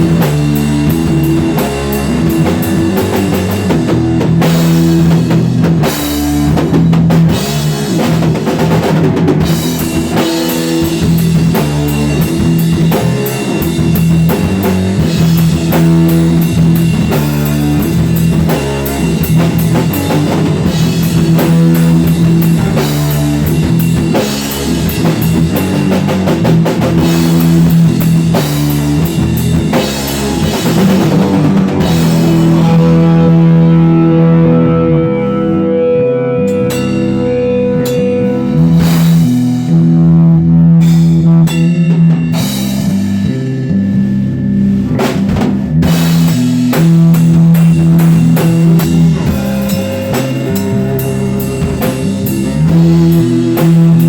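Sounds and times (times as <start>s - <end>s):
drum kit playing: 0.0s - 54.0s
electric guitar notes: 0.0s - 54.0s.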